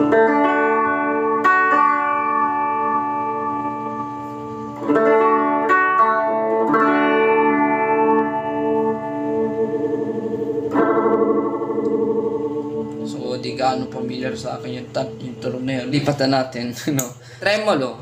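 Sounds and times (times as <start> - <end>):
electric guitar chords wobbling: 0.0 - 16.7.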